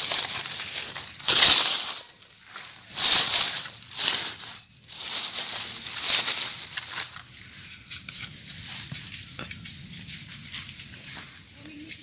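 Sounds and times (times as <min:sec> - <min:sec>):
tool scraping through dry soil: 0:00.0 - 0:12.0.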